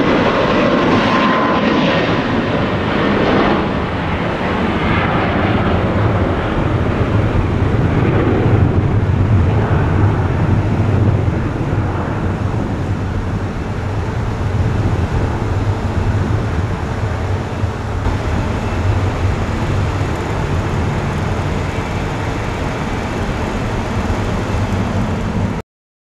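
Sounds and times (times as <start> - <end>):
jet engines rumbling: 0.0 - 25.6.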